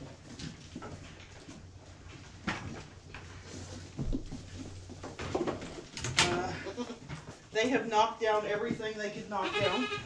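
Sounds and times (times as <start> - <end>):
animals shuffling: 0.0 - 10.0.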